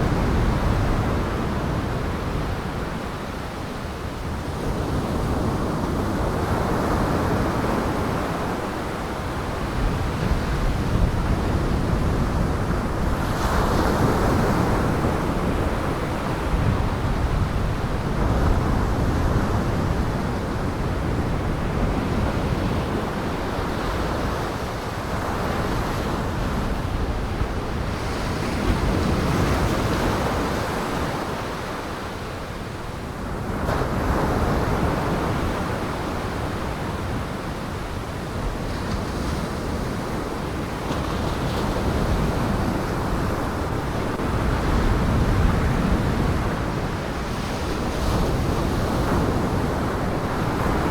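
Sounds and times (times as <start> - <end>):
wind noise: 0.0 - 50.9
heavy surf waves breaking: 5.0 - 50.9.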